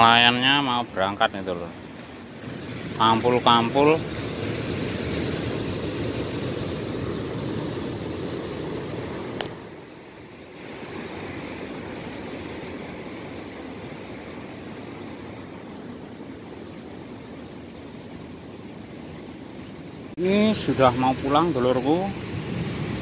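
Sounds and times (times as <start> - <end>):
surf waves rushing: 0.0 - 23.0.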